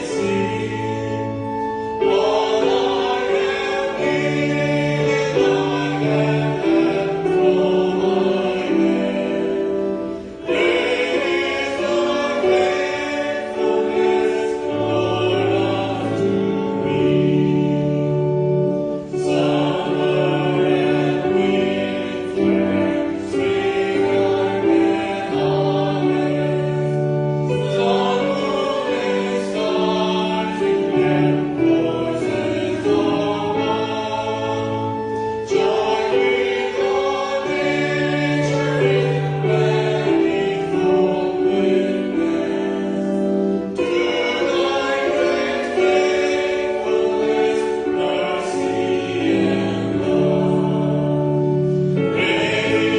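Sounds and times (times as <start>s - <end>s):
group singing a hymn: 0.0s - 52.9s
musical accompaniment: 0.0s - 52.9s.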